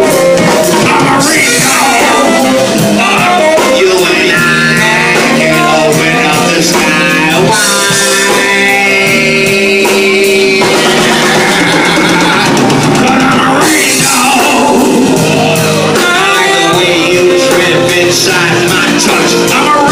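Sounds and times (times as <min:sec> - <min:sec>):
live rock band playing: 0:00.0 - 0:19.9.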